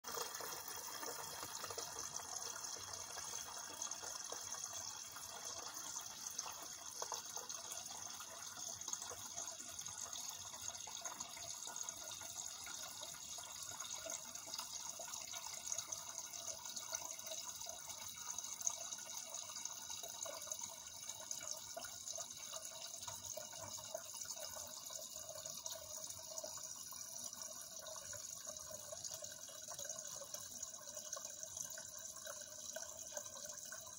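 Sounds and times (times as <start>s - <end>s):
water flowing: 0.0s - 33.9s.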